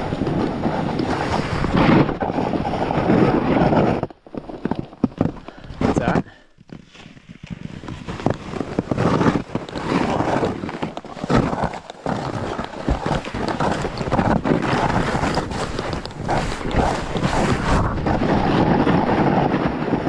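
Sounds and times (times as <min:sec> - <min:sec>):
wind on microphone: 0:00.0 - 0:06.4, 0:07.2 - 0:20.0
snowboard scraping snow: 0:00.0 - 0:20.0.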